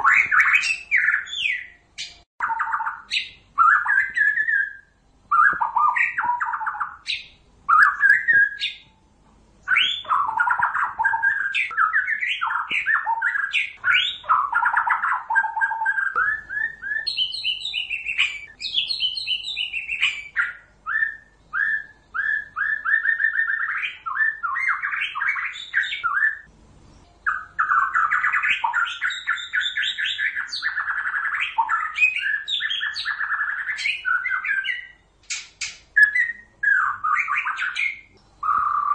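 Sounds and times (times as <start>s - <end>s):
songbird whistling and chattering: 0.0s - 9.0s, 9.6s - 26.5s, 27.2s - 38.9s.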